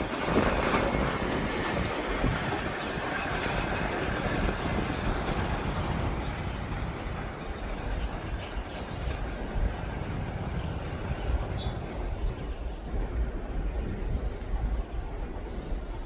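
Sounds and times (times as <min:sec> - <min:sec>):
train wheels running on rails: 0:00.0 - 0:16.0.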